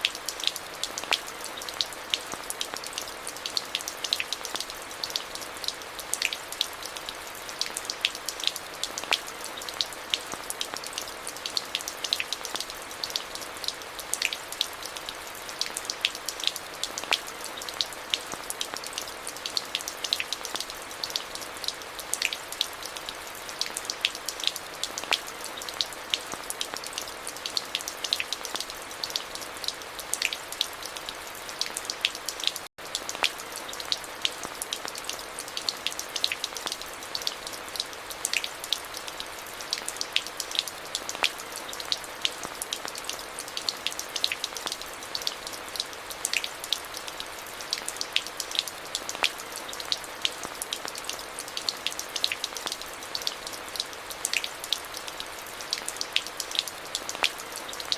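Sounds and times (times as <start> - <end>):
rain drops on hard surface: 0.0 - 57.9.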